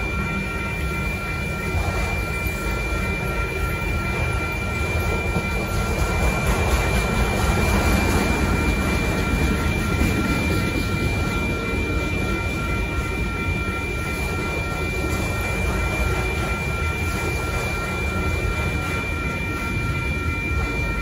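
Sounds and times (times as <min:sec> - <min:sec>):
crossing bell tones: 0:00.0 - 0:21.0
train wheels rumbling on rails: 0:00.0 - 0:21.0.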